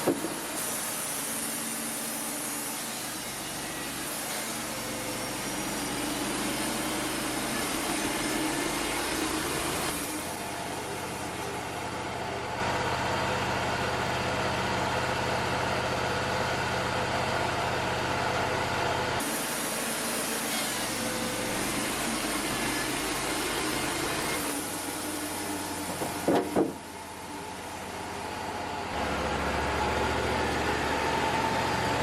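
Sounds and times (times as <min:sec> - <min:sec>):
bandsaw mill sawing: 0:00.0 - 0:14.8, 0:18.6 - 0:32.0.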